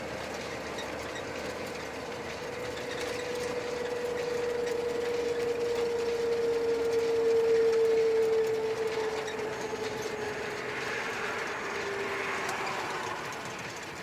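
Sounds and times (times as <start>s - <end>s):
truck engine whine in cab: 0.0s - 14.0s.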